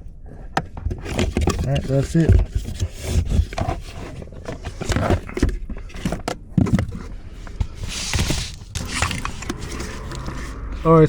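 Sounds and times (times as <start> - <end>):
plastic scraping and knocking: 0.4 - 10.7.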